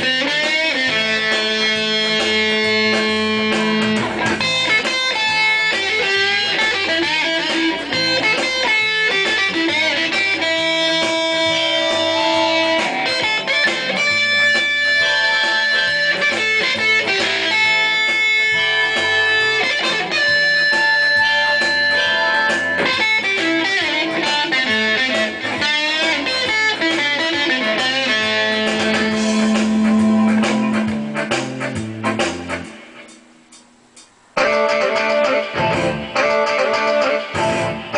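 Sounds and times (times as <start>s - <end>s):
guitar music: 0.0s - 37.9s.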